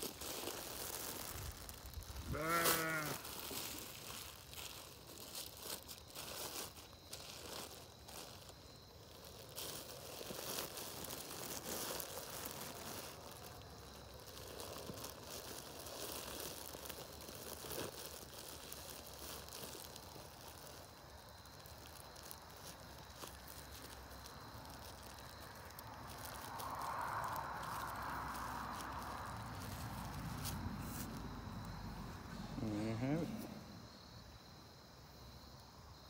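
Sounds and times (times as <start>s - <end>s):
plastic bag crinkling: 0.0s - 33.8s.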